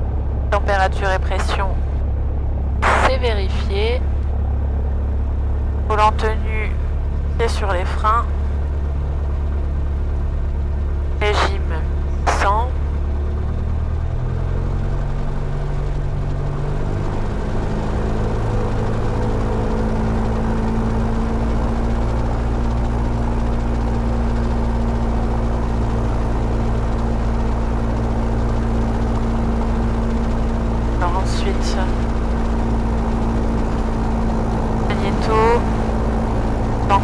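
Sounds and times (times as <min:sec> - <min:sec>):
aircraft piston engine and propeller: 0:00.0 - 0:37.0.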